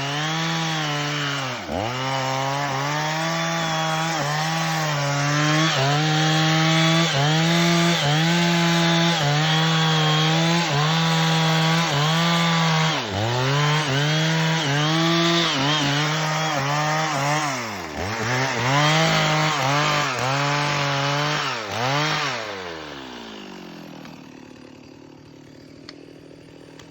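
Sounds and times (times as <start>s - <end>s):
chainsaw cutting wood: 0.0s - 26.9s.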